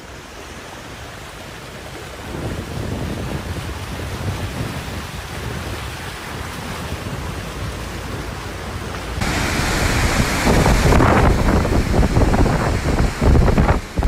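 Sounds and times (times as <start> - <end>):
floodwater rushing down a street: 0.0 - 14.0
wind rumbling on microphone: 1.2 - 14.0.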